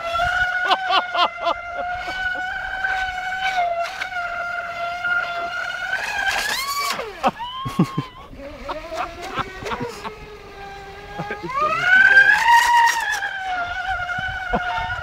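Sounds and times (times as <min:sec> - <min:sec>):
electric motor high whine: 0:00.0 - 0:15.0.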